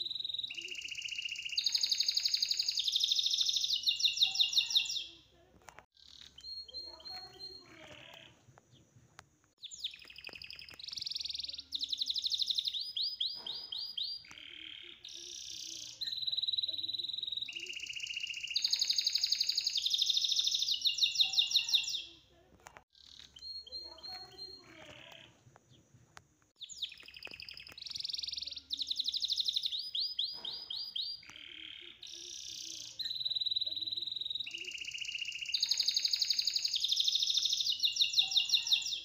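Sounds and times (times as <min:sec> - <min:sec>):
songbird chirping and trilling: 0:00.0 - 0:39.0.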